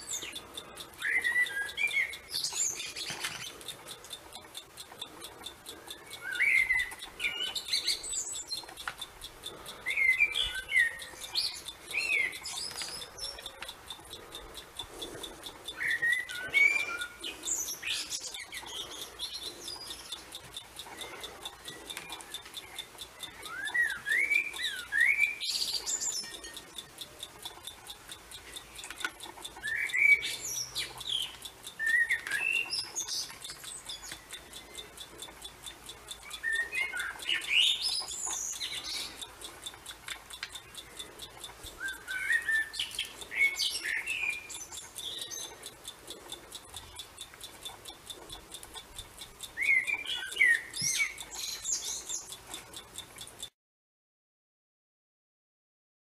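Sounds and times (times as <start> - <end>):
songbird singing: 0.0 - 53.4.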